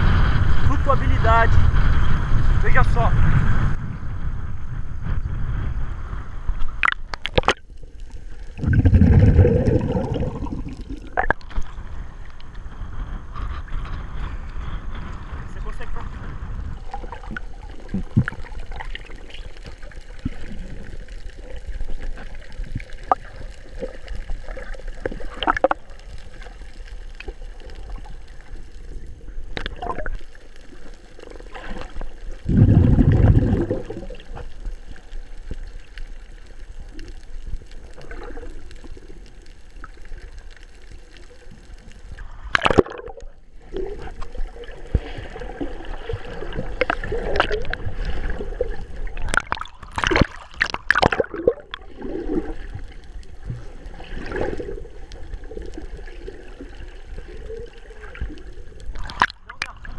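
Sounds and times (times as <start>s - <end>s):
water gurgling underwater: 6.4s - 14.2s, 16.0s - 59.9s
sharp clicks underwater: 6.5s - 12.7s, 16.8s - 59.9s.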